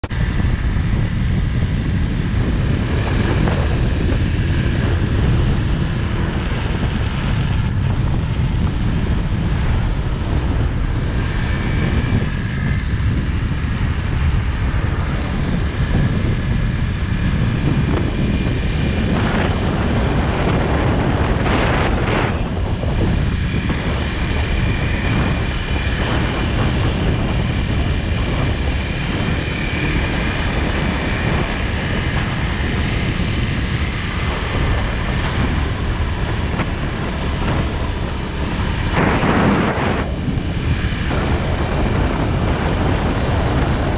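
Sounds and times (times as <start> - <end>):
scooter engine and road noise: 0.0 - 43.9
wind rumble on microphone: 0.0 - 43.9.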